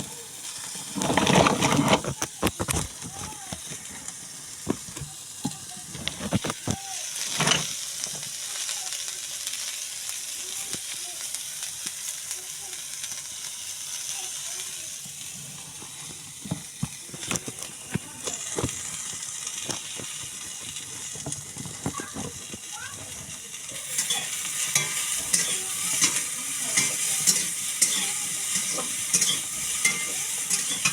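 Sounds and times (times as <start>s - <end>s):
vegetables sizzling in hot oil: 0.0s - 30.9s.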